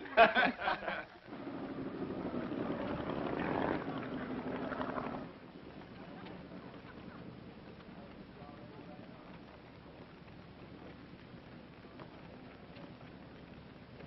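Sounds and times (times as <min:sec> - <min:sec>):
water wash: 0:00.0 - 0:14.0
motor boat engine hum: 0:01.3 - 0:14.0.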